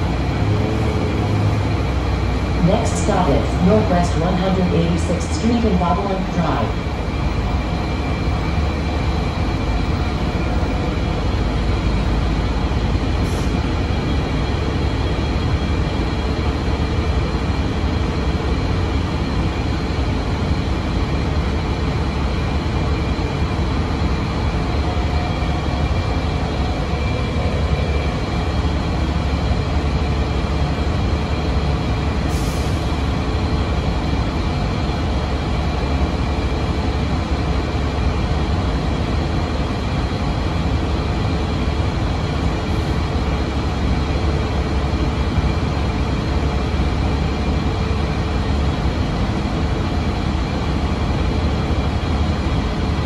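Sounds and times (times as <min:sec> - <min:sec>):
bus diesel engine rumble: 0:00.0 - 0:53.0
road noise: 0:00.0 - 0:53.0.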